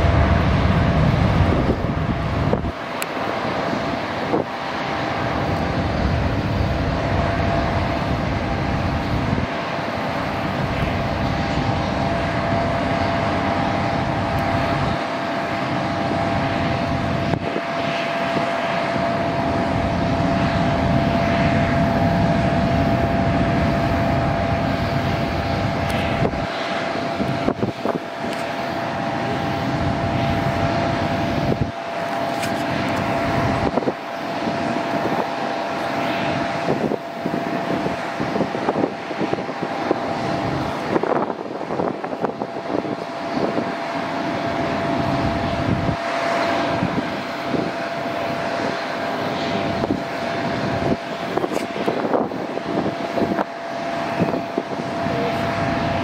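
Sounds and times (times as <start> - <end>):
jet airliner rumble: 0.0 - 56.0
steady pitched engine tone: 0.0 - 56.0.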